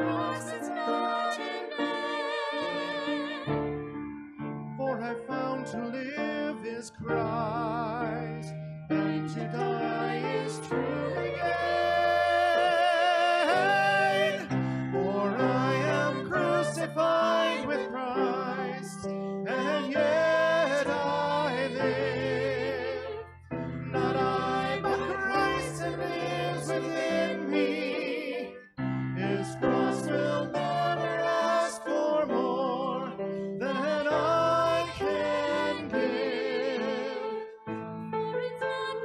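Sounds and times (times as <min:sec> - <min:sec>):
group singing a slow hymn: 0:00.0 - 0:03.6, 0:08.9 - 0:37.5.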